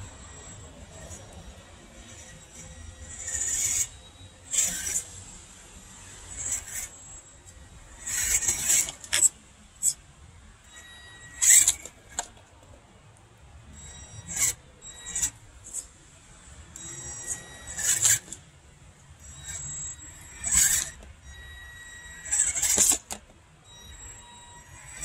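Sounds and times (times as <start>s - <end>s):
toy car motor whine: 0.0s - 10.0s, 10.6s - 12.5s, 13.7s - 16.0s, 16.7s - 18.5s, 19.2s - 25.0s.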